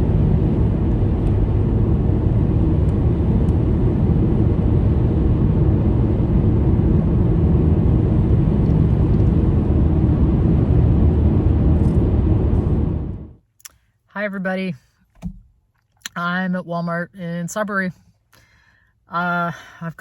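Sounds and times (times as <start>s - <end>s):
car engine and road noise: 0.0s - 13.4s, 15.1s - 17.9s.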